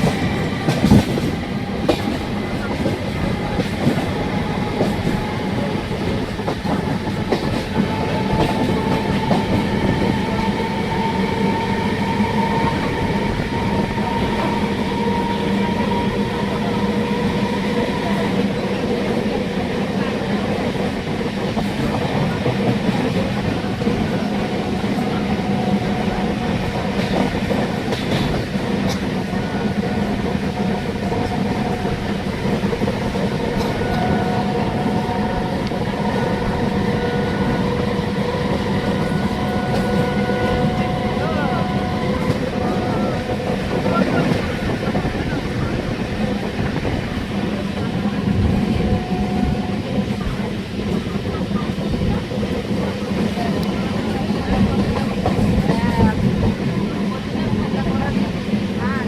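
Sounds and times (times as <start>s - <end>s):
train wheels clicking: 0.0s - 58.0s
train rail noise: 0.0s - 59.0s.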